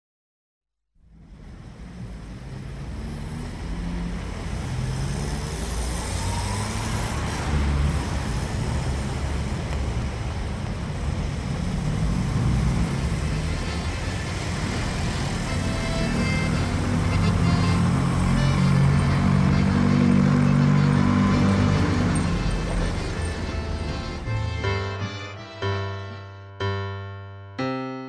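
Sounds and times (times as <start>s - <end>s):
road traffic rumble: 1.0s - 26.2s.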